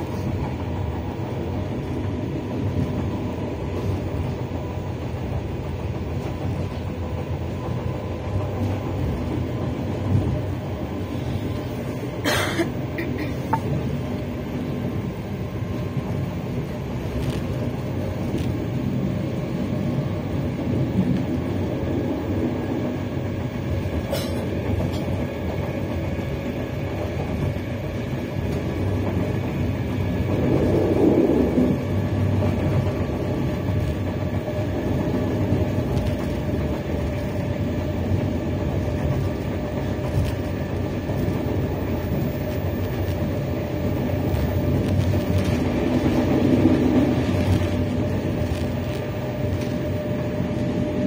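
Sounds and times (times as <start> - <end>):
train rumbling along track: 0.0 - 51.0.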